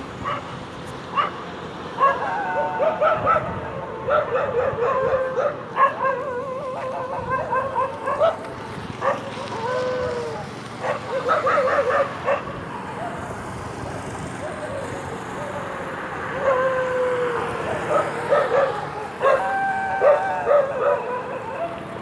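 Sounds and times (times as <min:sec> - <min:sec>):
dogs barking: 0:00.2 - 0:13.6, 0:14.3 - 0:22.0
dogs whining: 0:02.0 - 0:13.3, 0:14.4 - 0:22.0.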